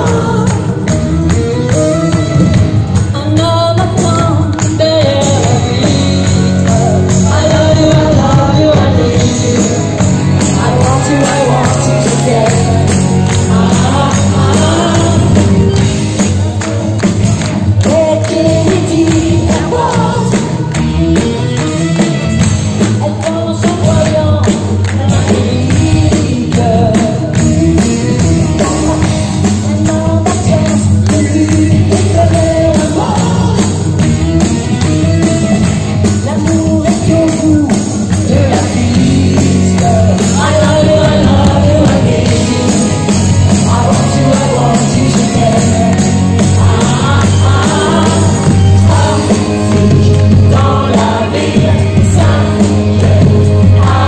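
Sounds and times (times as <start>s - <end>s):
women singing: 0.0s - 2.2s, 3.2s - 15.8s, 17.8s - 20.8s, 23.0s - 33.8s, 36.2s - 54.0s
live pop band: 0.0s - 54.0s.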